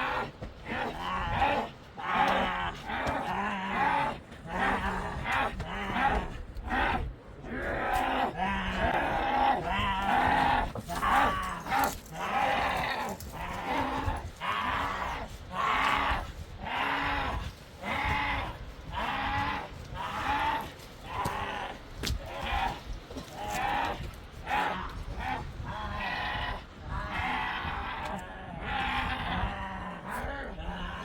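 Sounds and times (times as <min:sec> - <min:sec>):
goats or sheep bleating: 0:00.0 - 0:31.0.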